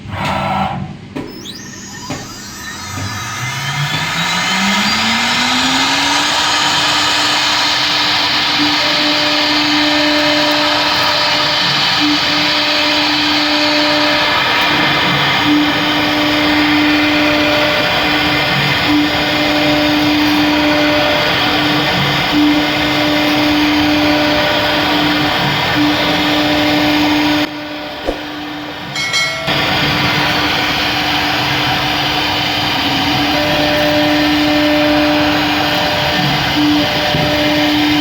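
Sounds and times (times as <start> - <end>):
router spindle whine: 0.0 - 28.9, 29.5 - 38.0.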